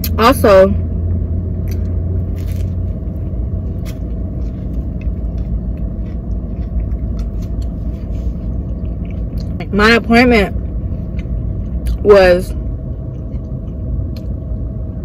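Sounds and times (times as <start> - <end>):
car engine rumble from cabin: 0.0 - 15.0
chewing and mouth sounds: 1.6 - 9.8, 10.5 - 14.4.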